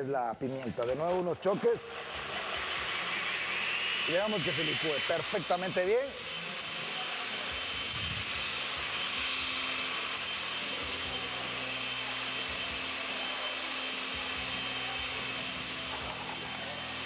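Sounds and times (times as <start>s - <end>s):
blender motor whirring: 0.8s - 17.0s.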